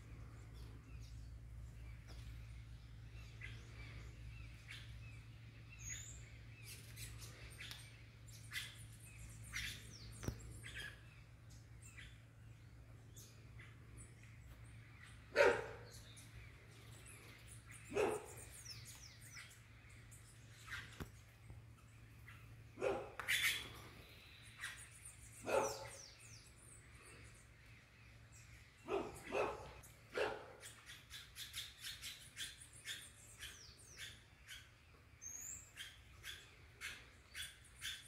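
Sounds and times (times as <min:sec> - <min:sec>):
steady low hum: 0:00.0 - 0:31.4
small birds chirping: 0:00.0 - 0:38.0.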